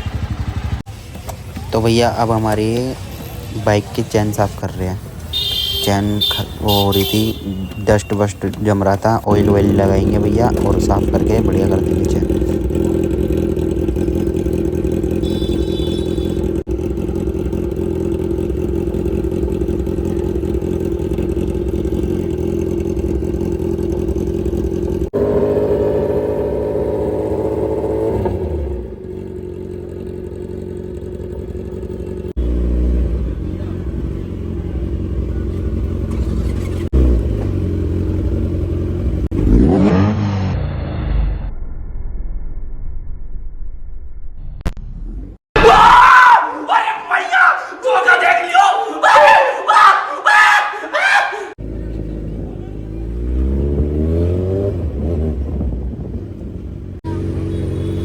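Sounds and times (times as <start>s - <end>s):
motorcycle engine revving: 0.0s - 41.5s, 51.5s - 58.0s.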